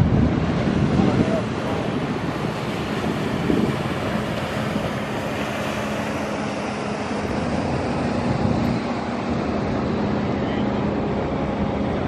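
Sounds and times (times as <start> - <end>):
outboard engine drone: 0.0 - 12.0
water wash: 0.0 - 12.0
wind on microphone: 0.0 - 12.0.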